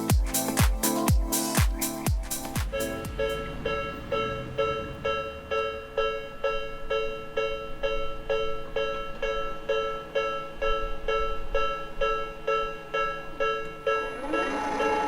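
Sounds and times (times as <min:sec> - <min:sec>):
level-crossing warning bell ringing: 0:02.7 - 0:15.0.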